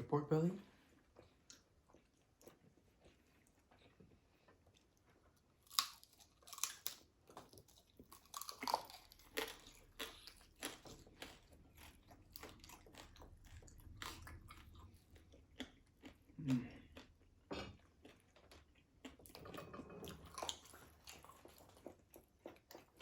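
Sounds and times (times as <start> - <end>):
crunchy chewing: 1.1 - 23.0.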